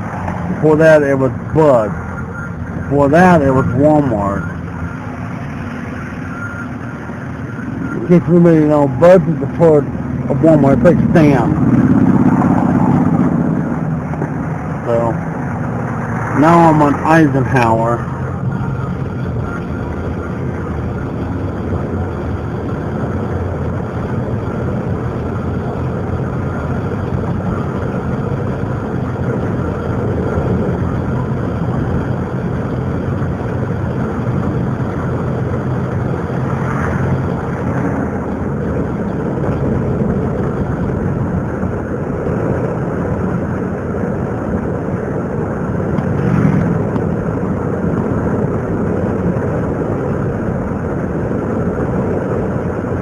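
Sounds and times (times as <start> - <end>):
car engine and road noise: 0.0 - 53.0.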